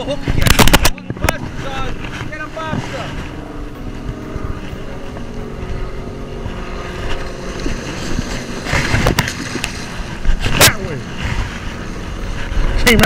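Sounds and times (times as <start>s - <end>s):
distant engine droning: 0.0s - 13.0s
surf: 0.0s - 13.0s
wind: 0.0s - 13.0s.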